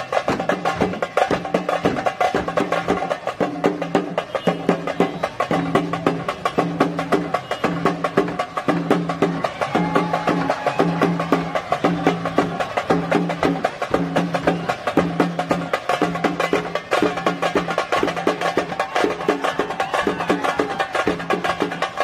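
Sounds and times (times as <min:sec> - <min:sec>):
fast dense drumming: 0:00.0 - 0:22.0.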